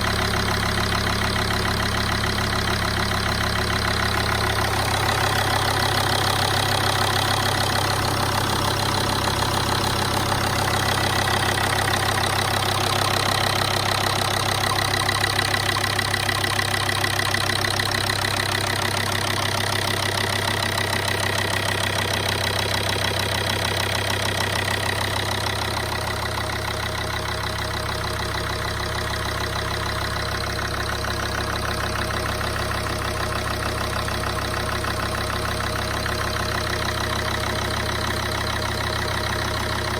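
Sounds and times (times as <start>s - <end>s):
diesel engine idling harshly: 0.0s - 39.9s.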